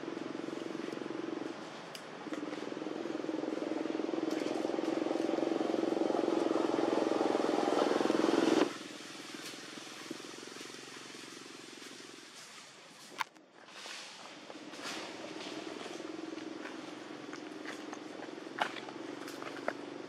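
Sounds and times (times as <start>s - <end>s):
motor engine running: 0.0s - 12.6s, 14.5s - 20.0s
faint engine hum: 0.0s - 20.0s.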